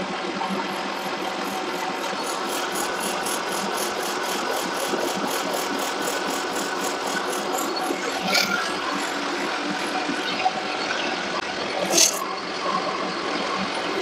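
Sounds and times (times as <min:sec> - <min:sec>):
metal lathe running: 0:00.6 - 0:12.2.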